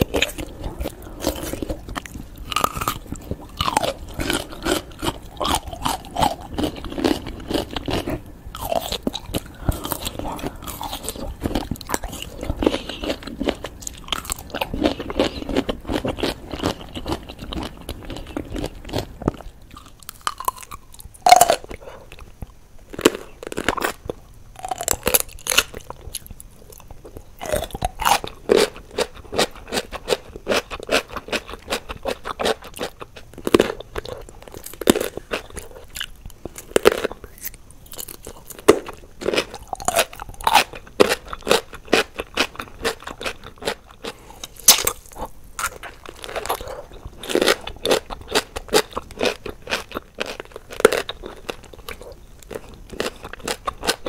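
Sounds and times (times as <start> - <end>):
crunching pickles: 0.0 - 54.0
quiet chewing: 0.0 - 54.0.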